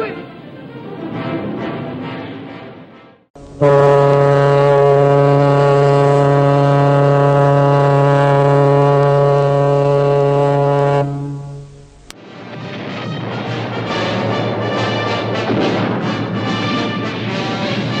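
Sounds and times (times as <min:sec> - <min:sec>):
ship's horn blast: 0:00.0 - 0:18.0.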